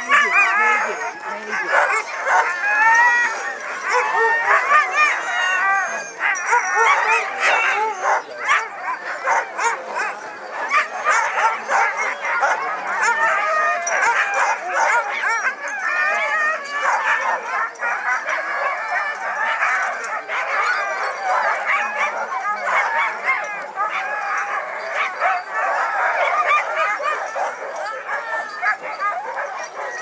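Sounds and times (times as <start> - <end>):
sled dogs barking and howling: 0.0 - 30.0.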